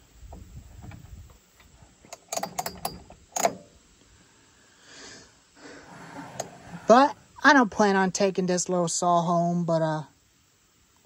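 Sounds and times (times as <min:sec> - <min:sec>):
soft hiss: 0:00.0 - 0:11.0.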